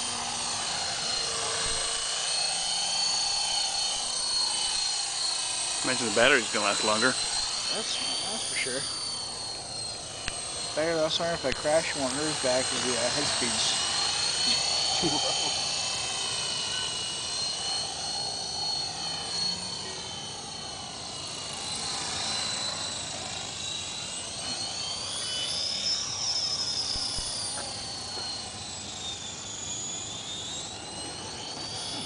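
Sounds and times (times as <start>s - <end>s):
rc helicopter motor whine: 0.0s - 32.0s
rotor hum: 0.0s - 32.0s.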